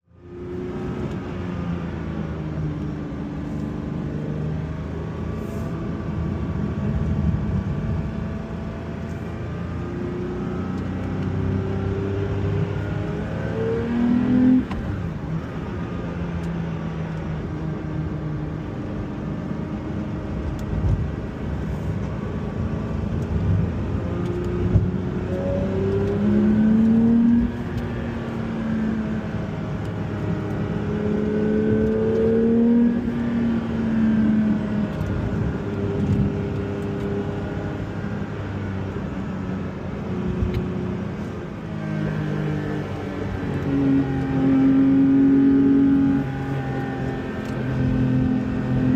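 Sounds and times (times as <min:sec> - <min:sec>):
car engine accelerating through gears: 0:00.1 - 0:48.9.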